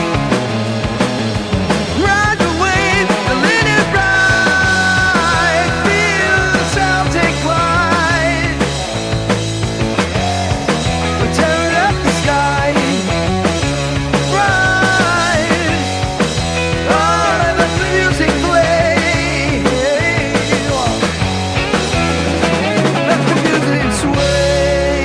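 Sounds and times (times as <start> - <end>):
psychedelic rock band playing: 0.0 - 25.0.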